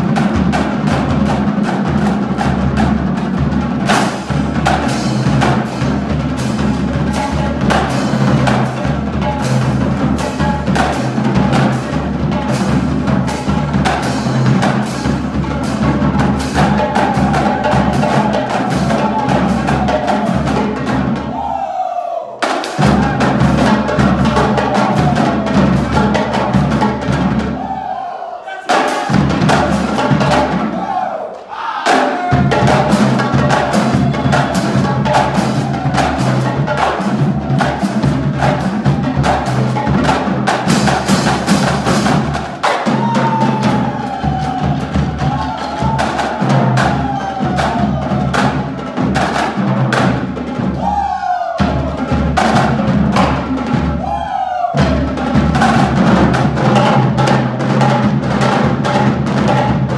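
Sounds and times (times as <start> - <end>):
marching bass drums: 0.0 - 21.6, 22.5 - 27.9, 28.7 - 31.1, 31.9 - 59.9
snare drum rolls: 0.0 - 28.1, 28.7 - 59.9.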